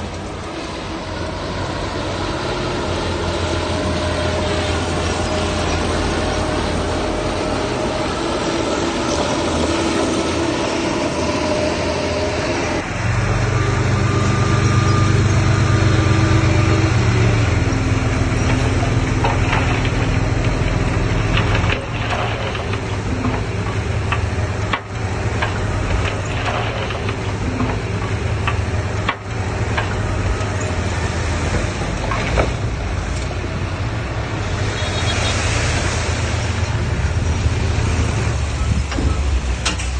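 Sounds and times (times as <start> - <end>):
diesel machinery engine: 0.0 - 39.9.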